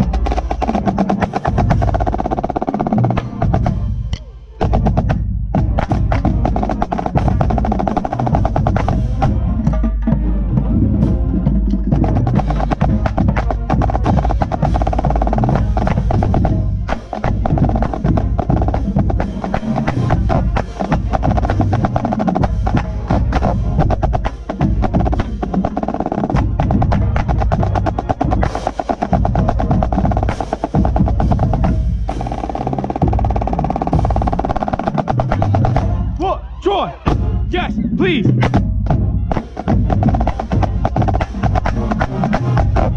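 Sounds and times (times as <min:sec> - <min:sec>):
snare drum rolls: 0:00.0 - 0:03.9, 0:04.6 - 0:42.9
bass drums: 0:00.0 - 0:42.9
marching band playing: 0:00.0 - 0:42.9.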